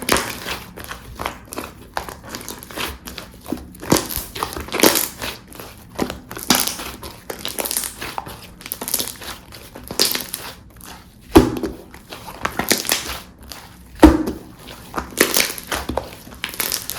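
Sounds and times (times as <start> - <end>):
slime squished by hand: 0.0 - 16.9.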